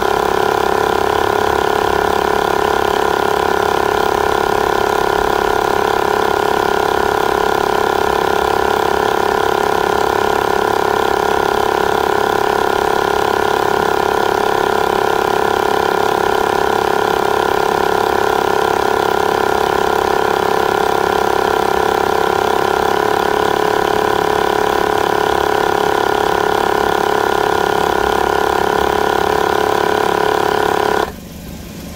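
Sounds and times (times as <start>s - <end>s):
tyre inflator compressor pumping: 0.0s - 31.2s.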